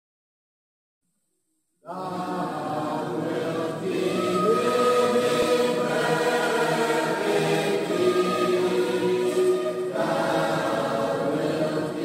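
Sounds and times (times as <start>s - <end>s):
choir singing long chords: 1.8s - 12.0s.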